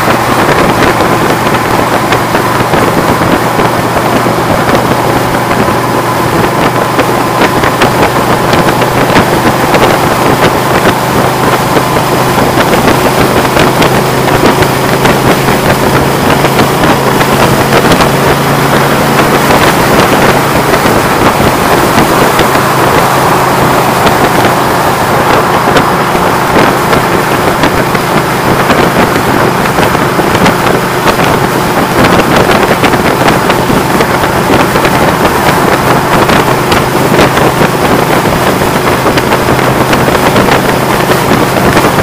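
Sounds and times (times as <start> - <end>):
road and wind noise: 0.0 - 42.0
vehicle engine hum: 0.0 - 42.0
wind buffeting the microphone: 0.0 - 42.0.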